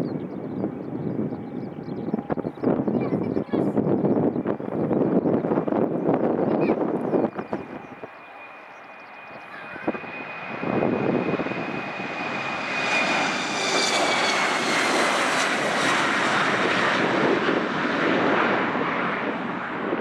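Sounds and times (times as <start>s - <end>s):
airliner engines passing: 0.0s - 20.0s.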